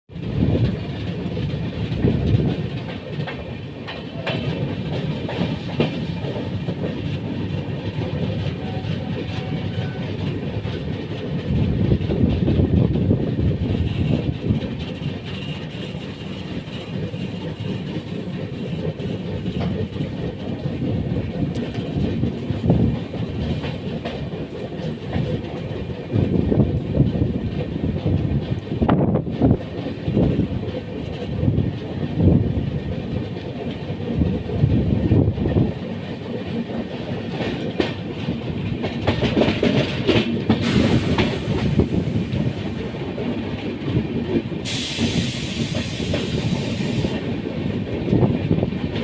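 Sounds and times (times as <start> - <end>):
train rumbling past: 0.1 - 49.0
wheels clacking over rail joints: 0.1 - 49.0.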